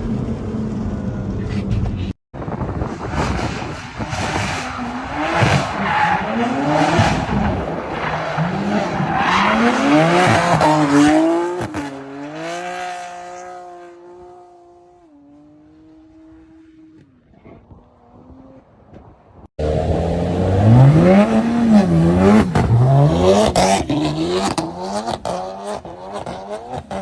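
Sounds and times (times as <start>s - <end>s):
car engine revving: 2.6s - 27.0s.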